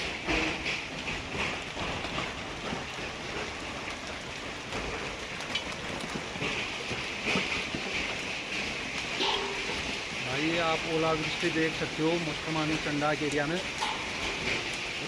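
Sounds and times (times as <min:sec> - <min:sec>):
heavy hail falling: 0:00.0 - 0:15.0.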